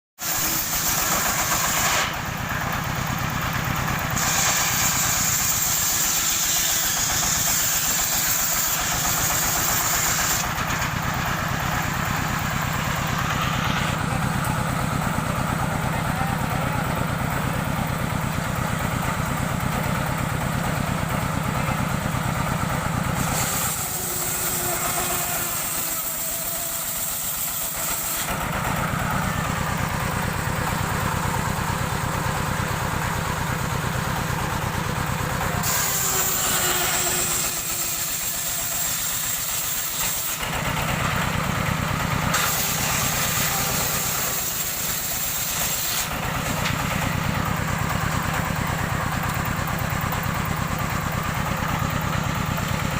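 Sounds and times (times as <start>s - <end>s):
saw whining through timber: 0.2s - 52.9s
sawmill engine hum: 0.2s - 52.9s.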